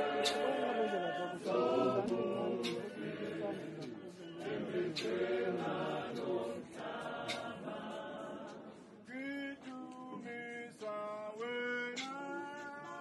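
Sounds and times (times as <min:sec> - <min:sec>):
congregation singing a hymn: 0:00.0 - 0:12.1.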